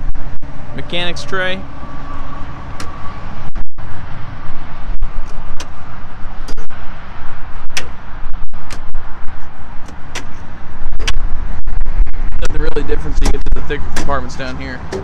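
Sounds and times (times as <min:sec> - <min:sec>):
steady loud noise: 0:00.0 - 0:15.0.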